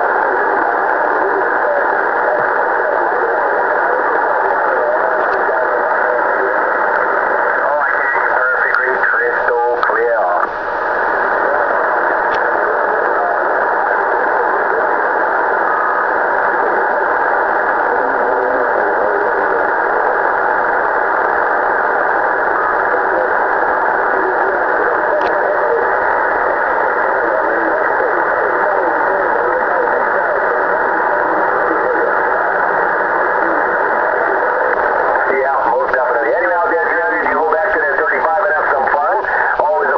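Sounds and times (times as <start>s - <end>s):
faint muddled radio signals: 0.0s - 39.9s
radio static and hiss: 0.0s - 39.9s.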